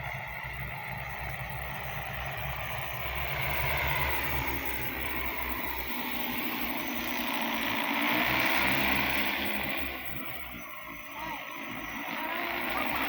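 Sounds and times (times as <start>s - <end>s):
aircraft propeller hum: 0.0s - 13.0s.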